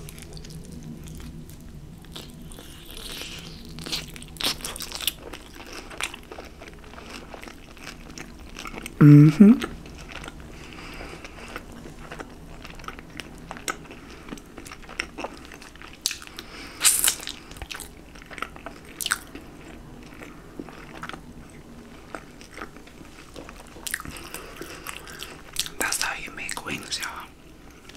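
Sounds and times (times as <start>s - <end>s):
chewing chicken wings: 0.0s - 9.0s, 9.6s - 27.9s.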